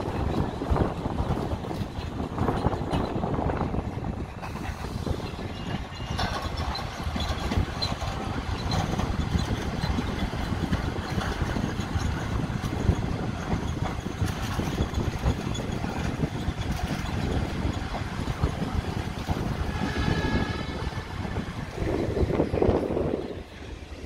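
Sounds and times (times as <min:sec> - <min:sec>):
rumble of train wheels on track: 0:00.0 - 0:24.0.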